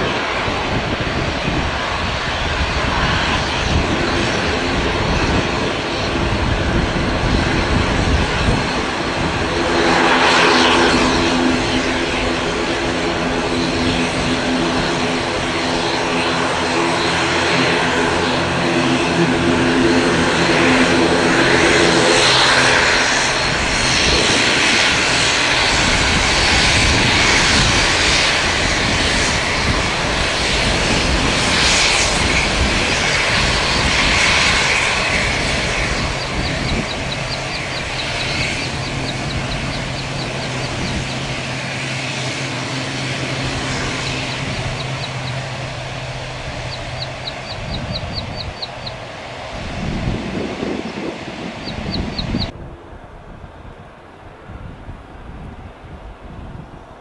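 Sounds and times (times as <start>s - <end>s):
aircraft engine rushing: 0.0s - 57.0s
propeller hum: 0.0s - 57.0s.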